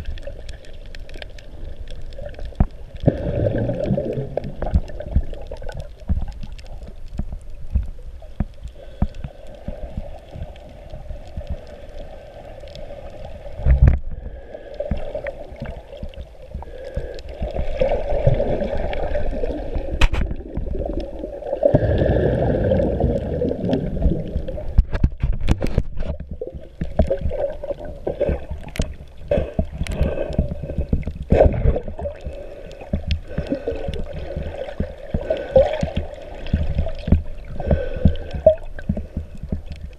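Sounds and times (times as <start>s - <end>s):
muffled underwater sloshing: 0.0s - 39.9s.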